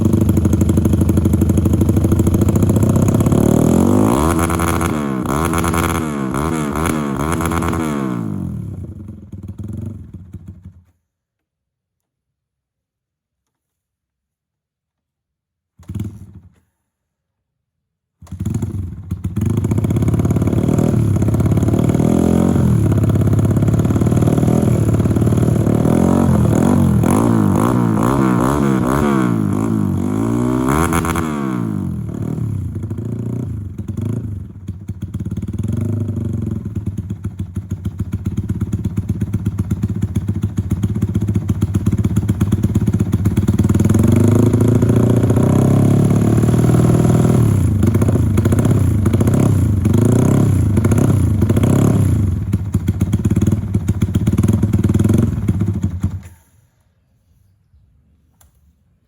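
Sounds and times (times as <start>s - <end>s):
motorcycle engine idling and revving: 0.0s - 11.1s, 15.8s - 16.9s, 18.1s - 56.6s.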